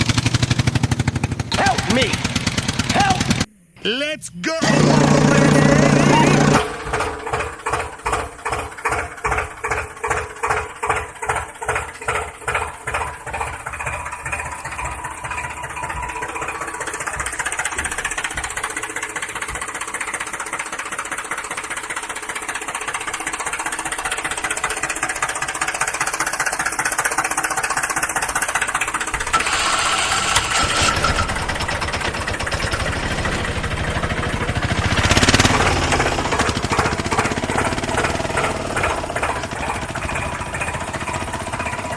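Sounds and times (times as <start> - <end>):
engine chugging: 0.0 - 3.5, 4.5 - 41.9.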